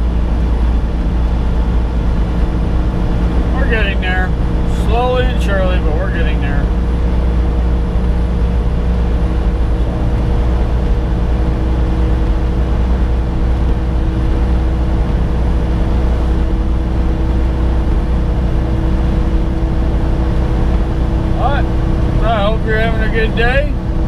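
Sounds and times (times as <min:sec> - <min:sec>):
diesel engine droning: 0:00.0 - 0:24.0
faint steady whine: 0:00.0 - 0:24.0
road noise: 0:00.0 - 0:24.0.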